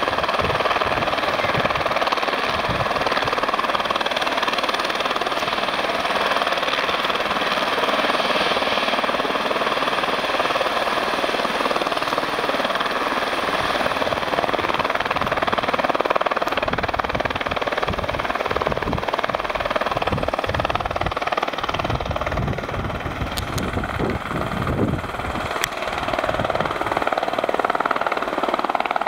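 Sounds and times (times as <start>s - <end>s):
helicopter rotor chop: 0.0s - 29.0s
helicopter turbine whine: 0.0s - 29.0s.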